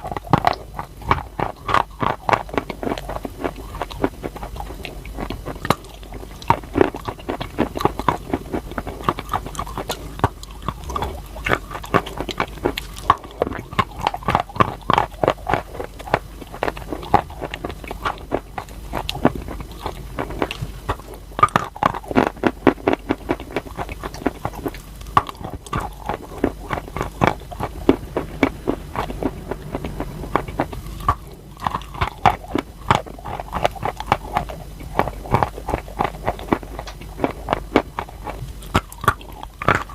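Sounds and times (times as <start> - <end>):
chewing crunchy chalk: 0.0 - 39.9.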